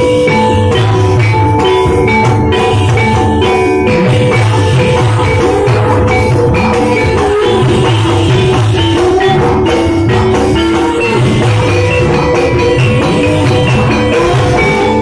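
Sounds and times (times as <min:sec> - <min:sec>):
drum strokes: 0:00.0 - 0:15.0
gamelan music: 0:00.0 - 0:15.0
metal keyed instruments ringing: 0:00.0 - 0:15.0.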